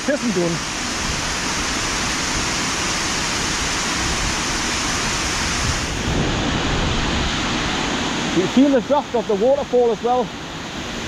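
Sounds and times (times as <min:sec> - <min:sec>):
heavy rain: 0:00.0 - 0:11.0
waterfall rushing: 0:00.0 - 0:11.0.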